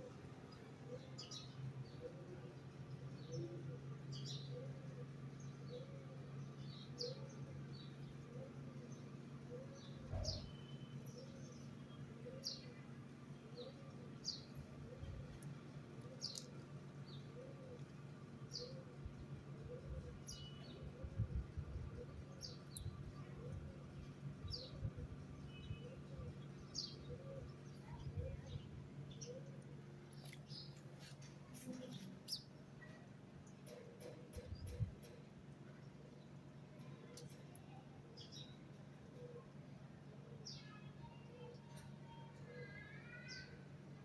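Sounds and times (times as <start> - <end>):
steady low hum: 0.0 - 42.0
small birds chirping: 0.0 - 43.8.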